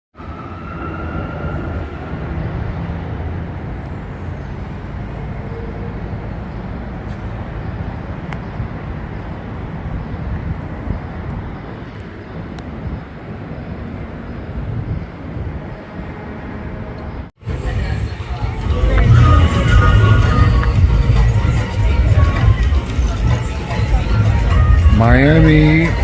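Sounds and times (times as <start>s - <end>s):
road traffic rumble: 0.2s - 26.0s.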